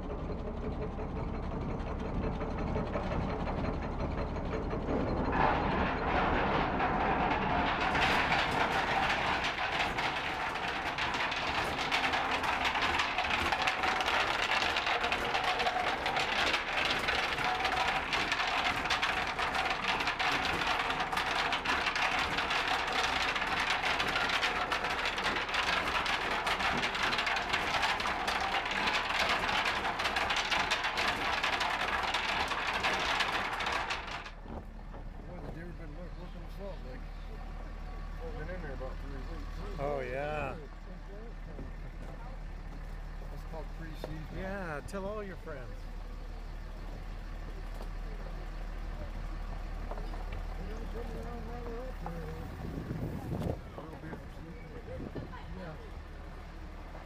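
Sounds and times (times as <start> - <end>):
mill machinery clattering: 0.0 - 57.0.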